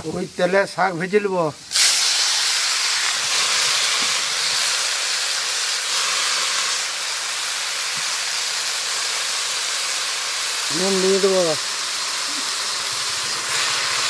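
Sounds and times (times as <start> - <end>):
greens sizzling in hot oil: 0.0 - 14.0.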